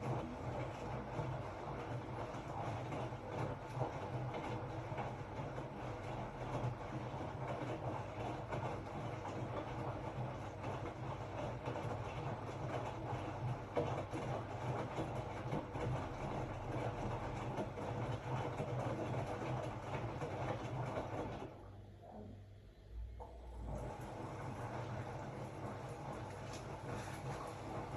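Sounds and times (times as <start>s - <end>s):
washing machine churning: 0.0s - 27.9s.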